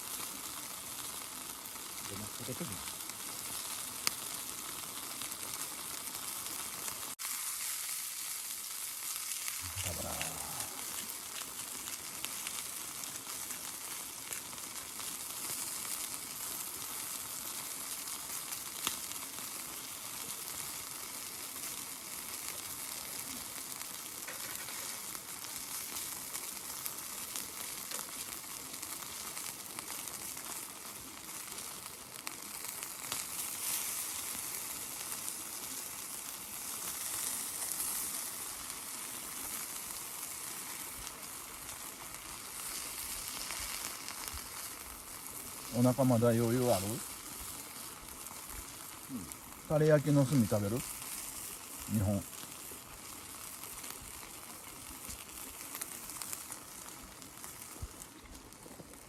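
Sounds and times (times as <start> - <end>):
meat sizzling over charcoal: 0.0 - 59.0.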